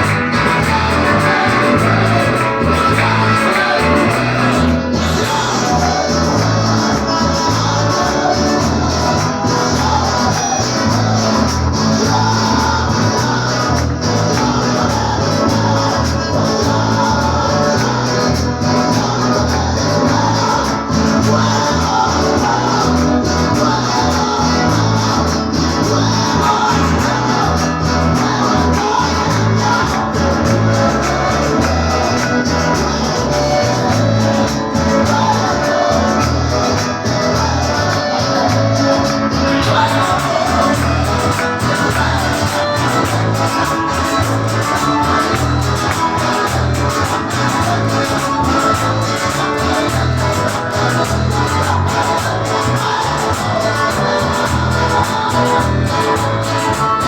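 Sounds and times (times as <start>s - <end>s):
guitar: 0.0s - 57.0s
person singing: 0.0s - 57.0s
repeating bass line: 0.0s - 57.0s
worship band playing: 0.0s - 57.0s.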